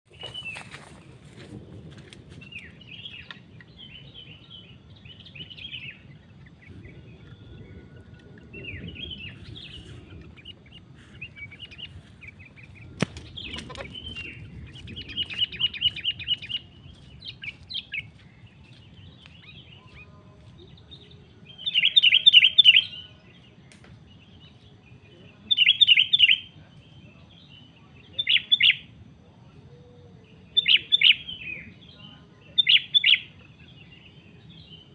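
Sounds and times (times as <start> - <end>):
birds calling: 0.1 - 34.9.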